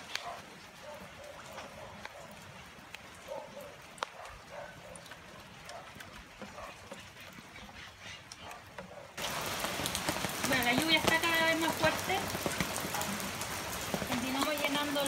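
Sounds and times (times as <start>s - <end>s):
rain on paving and buckets: 0.0s - 15.0s
drips ticking: 0.9s - 15.0s.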